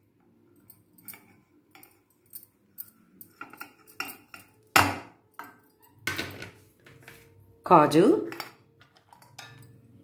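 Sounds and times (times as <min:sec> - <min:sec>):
steel bowls knocking and clinking: 0:00.6 - 0:07.1, 0:08.0 - 0:10.0.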